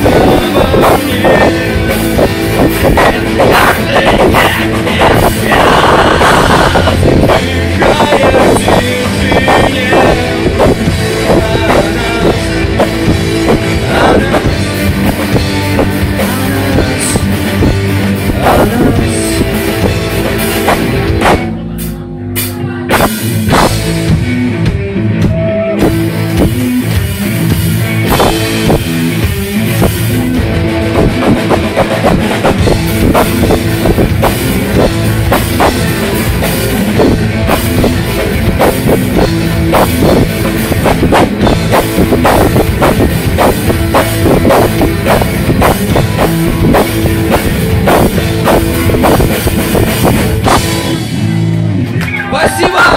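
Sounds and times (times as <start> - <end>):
rock music with driving drums: 0.0 - 52.9.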